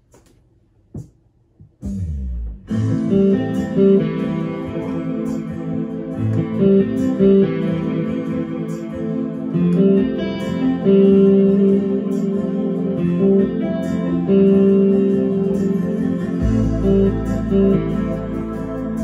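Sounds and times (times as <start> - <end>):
sustained keyboard chords: 1.7 - 19.0
keyboard plucked guitar-like melody: 2.0 - 19.0.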